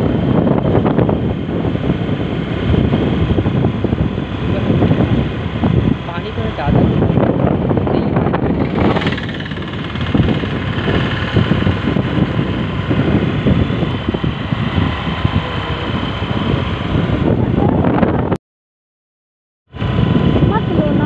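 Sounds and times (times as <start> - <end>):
vehicle engine running: 0.0 - 18.4
wind on microphone: 0.0 - 18.4, 19.7 - 21.0.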